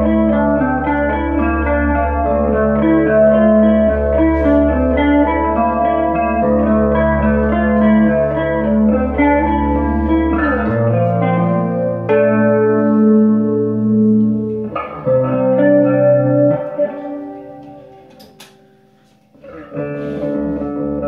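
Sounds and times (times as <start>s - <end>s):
electric guitar through an amp: 0.0s - 21.0s.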